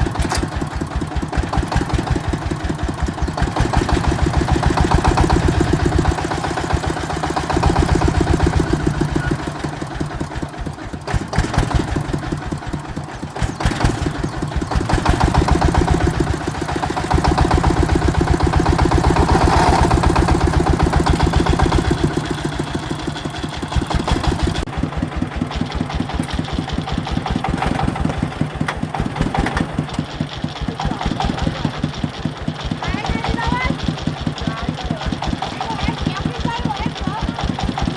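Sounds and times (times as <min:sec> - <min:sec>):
farm vehicle engine running: 0:00.0 - 0:37.9.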